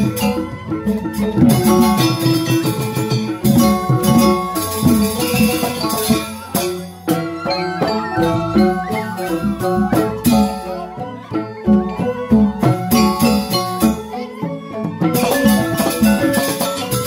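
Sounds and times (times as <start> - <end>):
bamboo xylophones melody: 0.0 - 17.0
hand drum strokes: 0.0 - 17.0.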